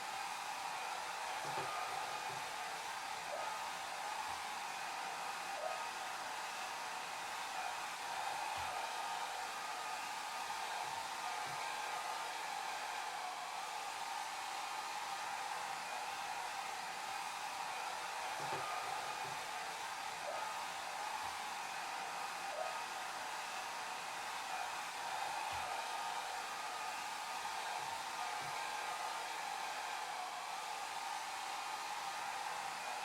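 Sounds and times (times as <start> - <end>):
hair dryer running: 0.0 - 33.0.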